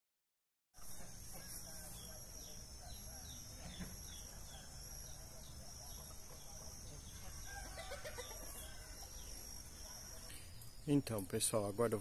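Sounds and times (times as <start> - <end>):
chickens clucking: 0.8 - 10.4
insects droning: 0.8 - 12.0.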